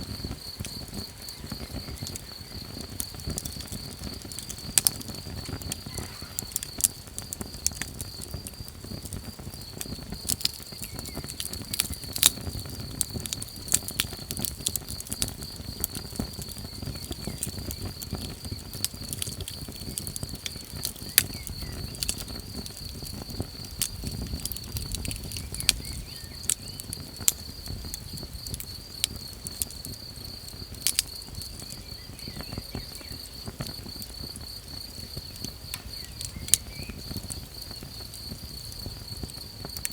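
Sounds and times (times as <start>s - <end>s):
campfire crackling and popping: 0.0s - 39.9s
insect trill: 0.0s - 39.9s.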